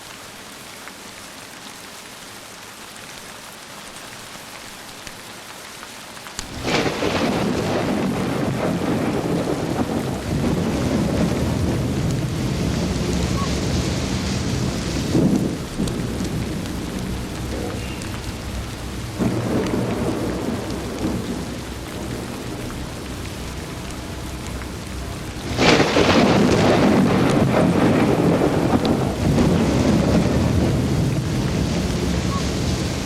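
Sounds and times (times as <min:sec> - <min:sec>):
steady rain: 0:00.0 - 0:33.0
loud thunderclap: 0:06.4 - 0:33.0
thunder rumbles: 0:06.4 - 0:33.0.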